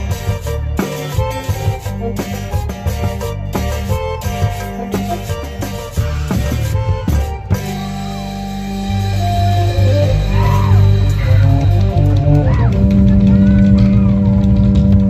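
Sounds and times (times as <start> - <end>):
loud music with deep bass: 0.0 - 15.0.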